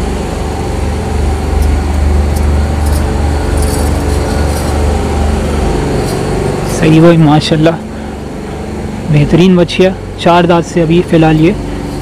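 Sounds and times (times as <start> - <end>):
low mechanical hum of machine: 0.0 - 12.0.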